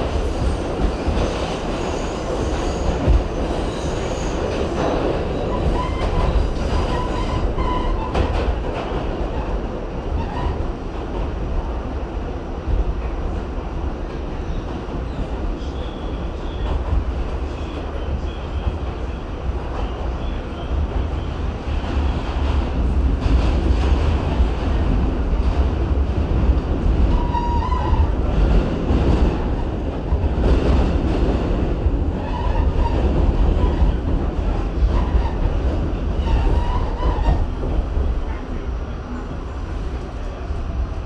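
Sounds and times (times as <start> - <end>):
subway wheels rumbling on rail: 0.0 - 41.0.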